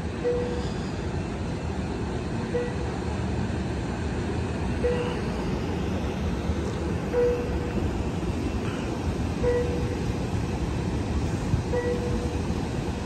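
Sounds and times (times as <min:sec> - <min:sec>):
train engine low rumble: 0:00.0 - 0:13.0.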